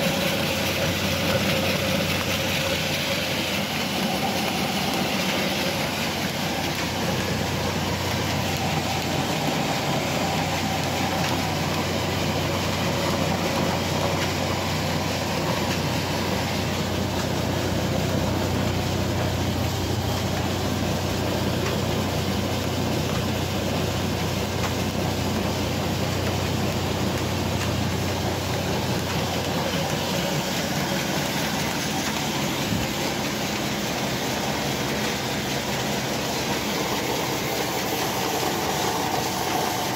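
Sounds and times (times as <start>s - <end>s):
constant low hum: 0.0s - 39.9s
flour mill machines running: 0.0s - 39.9s.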